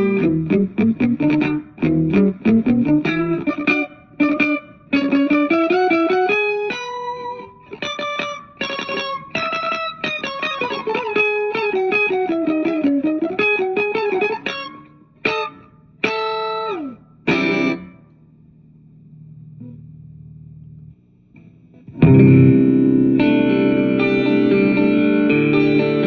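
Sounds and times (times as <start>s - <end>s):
electric guitar with pitch bends: 0.0s - 26.0s
low amplifier hum: 0.0s - 26.0s.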